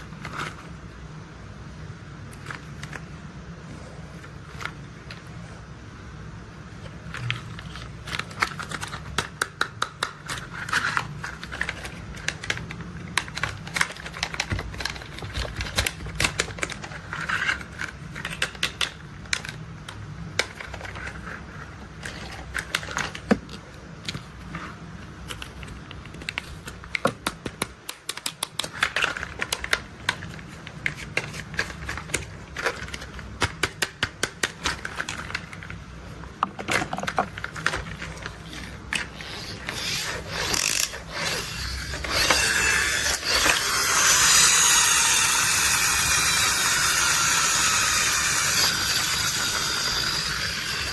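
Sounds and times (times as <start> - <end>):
plastic toy vehicles clicking: 7.2 - 24.2, 25.2 - 35.8, 36.4 - 50.9.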